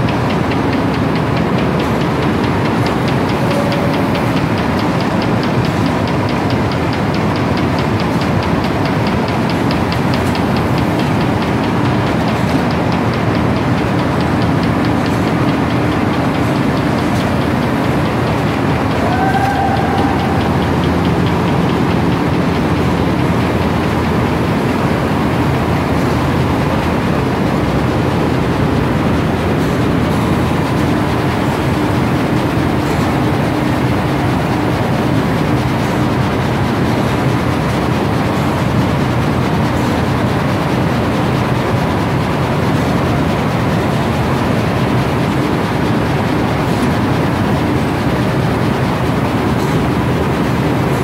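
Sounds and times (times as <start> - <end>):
conveyor rattling: 0.0 - 51.0.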